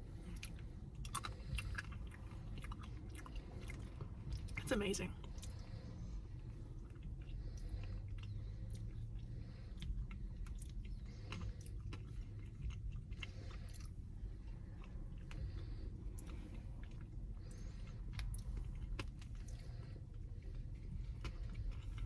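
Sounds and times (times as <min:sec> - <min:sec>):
person chewing: 0:00.0 - 0:04.6, 0:05.2 - 0:22.0
low steady hum: 0:00.0 - 0:22.0.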